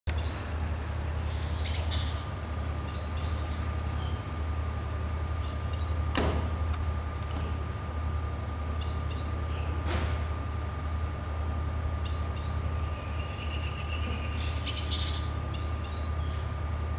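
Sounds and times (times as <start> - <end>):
birds cheeping: 0.1 - 6.3, 7.7 - 16.7.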